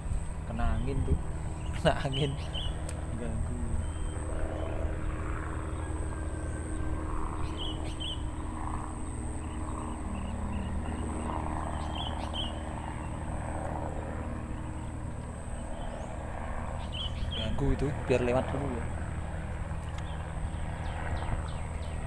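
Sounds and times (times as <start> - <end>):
distant engine hum: 0.0 - 22.0
bird chirps: 0.5 - 13.3, 14.3 - 17.6, 19.8 - 22.0.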